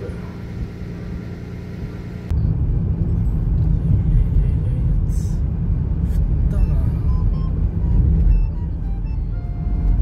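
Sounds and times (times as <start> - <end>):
car driving on snowy road: 0.0 - 10.0.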